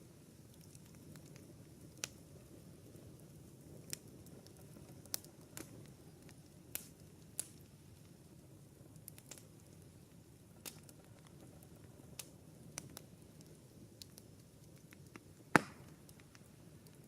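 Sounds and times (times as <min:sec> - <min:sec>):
campfire crackling: 0:00.0 - 0:17.0
low steady hiss: 0:00.0 - 0:17.0.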